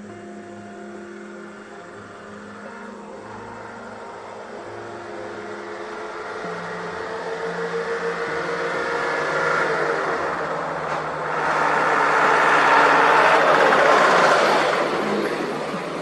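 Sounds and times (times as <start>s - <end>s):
vehicle engine humming: 0.0s - 16.0s
vehicle rushing past: 1.3s - 16.0s.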